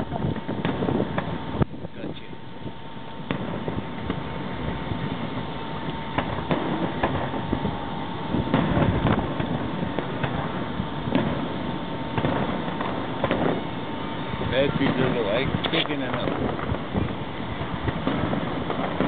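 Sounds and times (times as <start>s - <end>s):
distant fireworks bangs: 0.0s - 19.0s
wind rumble on microphone: 0.0s - 19.0s.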